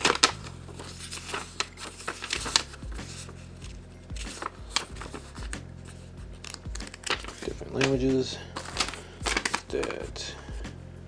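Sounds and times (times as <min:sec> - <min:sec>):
packaging and paper rustling: 0:00.0 - 0:10.0.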